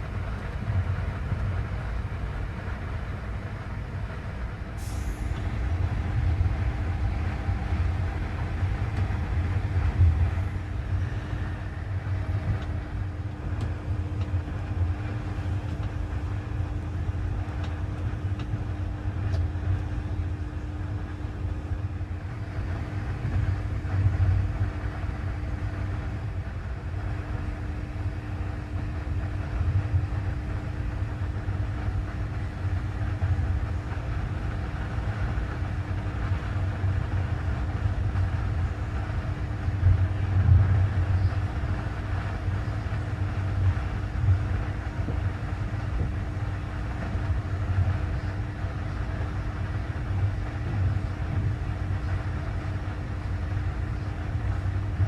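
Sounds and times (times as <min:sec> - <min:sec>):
constant hum: 0:00.0 - 0:55.0
train running gear rumble: 0:00.0 - 0:55.0.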